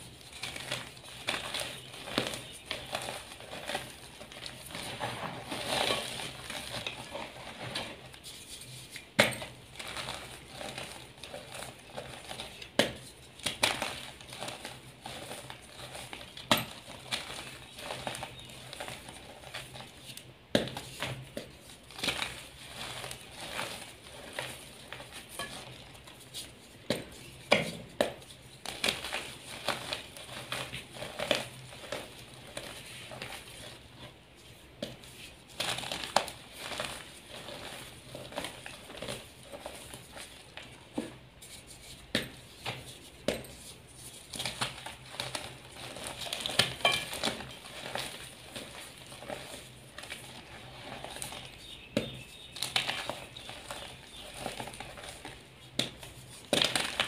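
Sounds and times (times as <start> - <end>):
chalk blocks crunching: 0.0 - 57.0.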